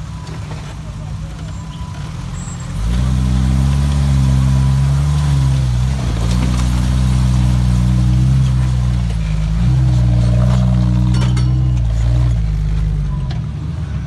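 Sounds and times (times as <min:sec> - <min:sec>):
car engine revving: 0:01.0 - 0:13.2.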